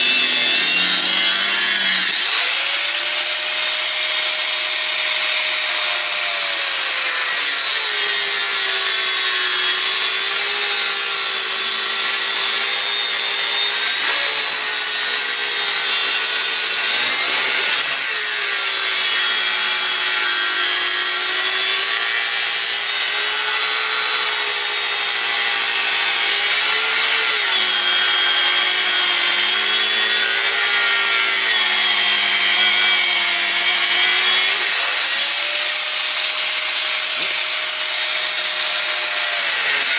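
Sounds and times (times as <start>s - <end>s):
power tool cutting steel: 0.0s - 39.9s.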